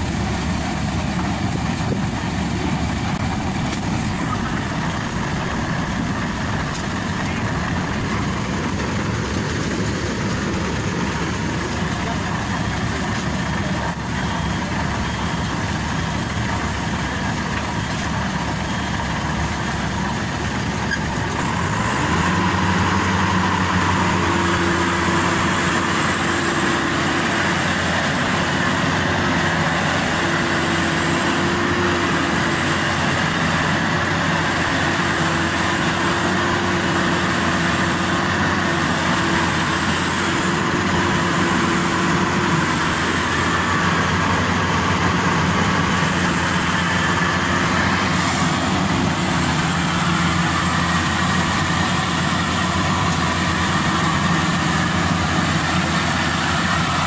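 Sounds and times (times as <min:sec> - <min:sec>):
harvester engine running: 0:00.0 - 0:57.0
machinery whine: 0:00.0 - 0:57.0.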